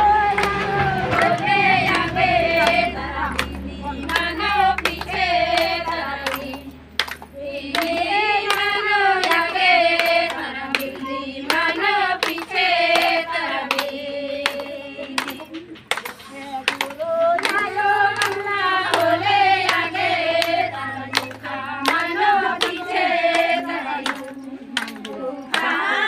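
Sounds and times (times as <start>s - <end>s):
hands clapping: 0.0s - 26.0s
women singing together: 0.0s - 26.0s.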